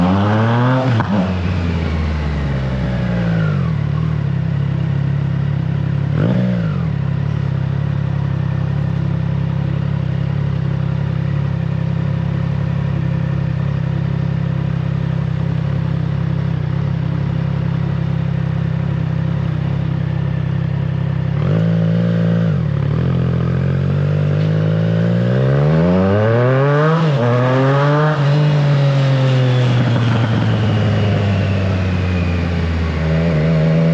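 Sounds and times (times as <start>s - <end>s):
three-cylinder motorcycle engine revving: 0.0s - 33.9s.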